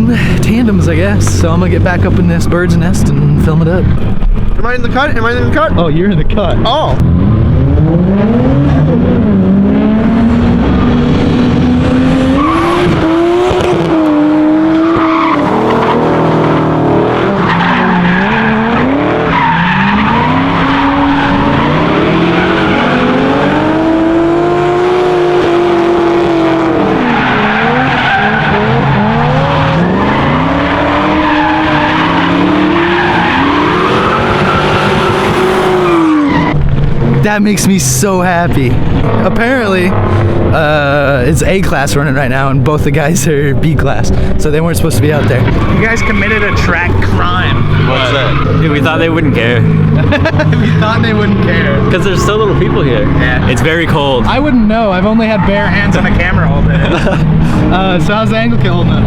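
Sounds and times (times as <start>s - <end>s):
car engines revving: 0.0s - 59.0s
tyres screeching: 9.8s - 59.0s.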